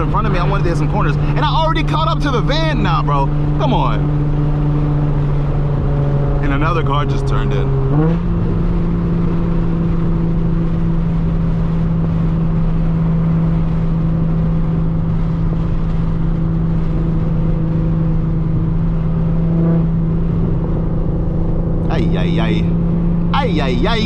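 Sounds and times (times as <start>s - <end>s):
car engine droning: 0.0s - 24.0s
road noise: 0.0s - 24.0s.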